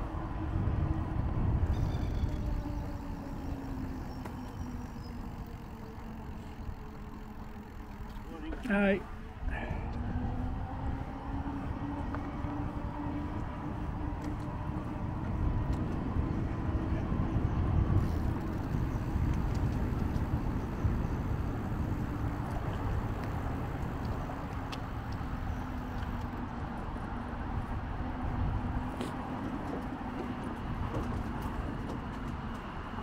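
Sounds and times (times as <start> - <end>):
wheel rumble on pavement: 0.0 - 33.0
wind buffeting microphone: 0.0 - 33.0.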